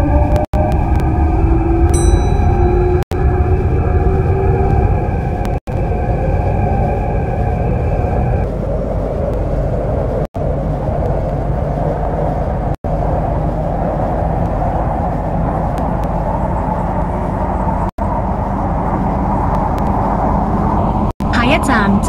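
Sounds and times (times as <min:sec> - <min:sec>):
train wheels and motors rumbling: 0:00.0 - 0:22.0.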